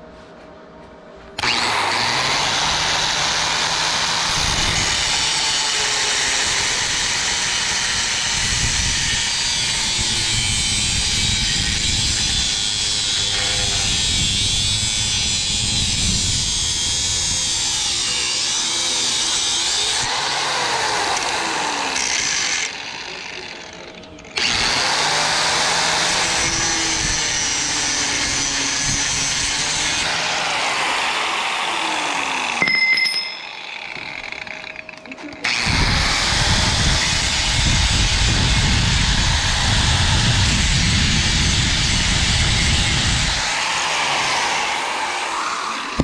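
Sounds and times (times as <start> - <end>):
power tool running: 1.4 - 46.0.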